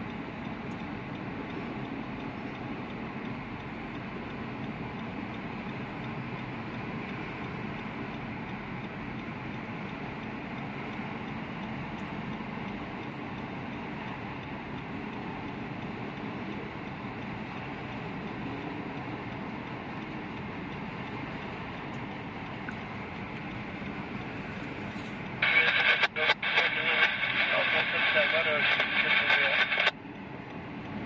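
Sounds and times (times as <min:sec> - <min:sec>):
faint regular ticking: 0:00.0 - 0:31.0.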